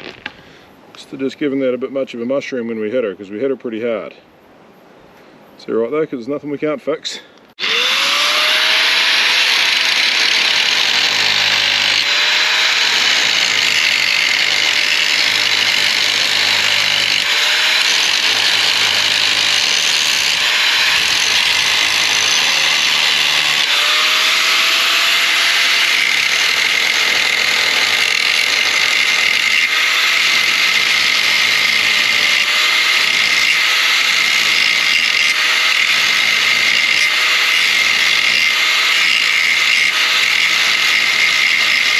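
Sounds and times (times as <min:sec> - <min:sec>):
power tool whining on metal: 0:07.6 - 0:41.9.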